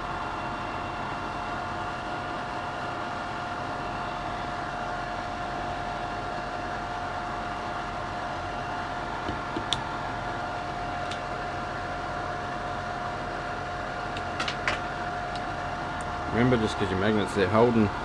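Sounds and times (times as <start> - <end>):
extraction fan humming: 0.0 - 18.0.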